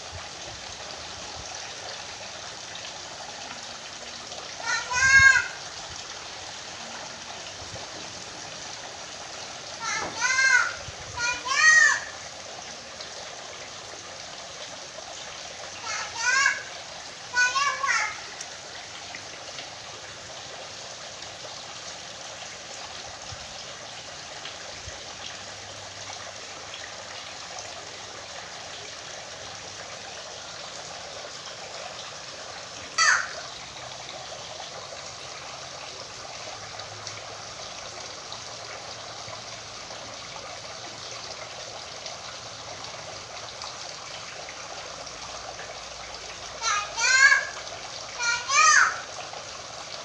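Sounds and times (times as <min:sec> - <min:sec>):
trickling water hiss: 0:00.0 - 0:50.0.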